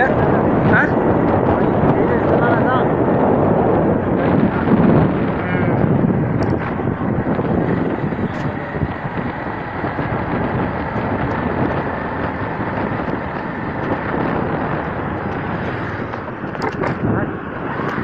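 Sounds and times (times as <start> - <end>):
moving vehicle running noise: 0.0 - 18.0
wind noise on microphone: 0.0 - 18.0.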